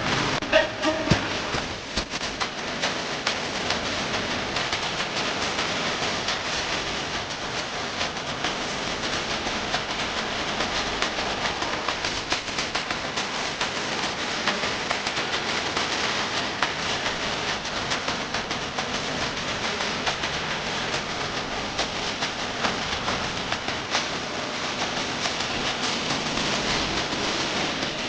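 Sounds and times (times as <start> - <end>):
dense crackling noise: 0.0 - 28.0.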